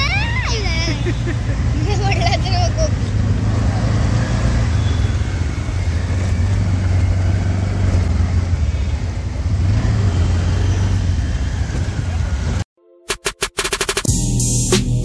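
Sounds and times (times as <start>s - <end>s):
auto-rickshaw engine running: 0.0s - 12.7s
road noise: 0.0s - 12.7s.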